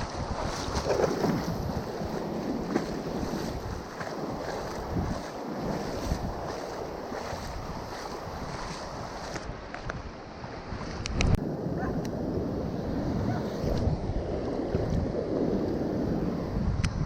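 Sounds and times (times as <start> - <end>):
surf washing on beach: 0.0 - 16.8
wind buffeting microphone: 0.0 - 17.0.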